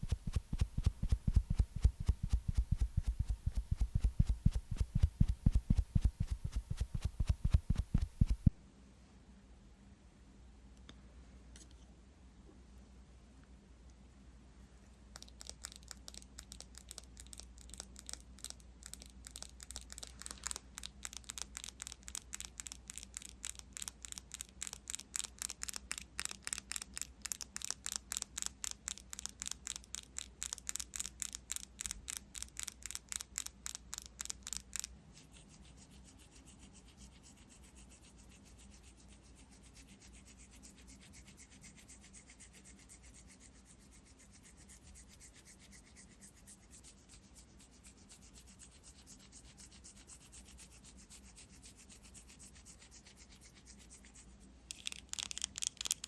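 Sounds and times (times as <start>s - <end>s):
soft continuous rubbing: 0.0s - 56.0s.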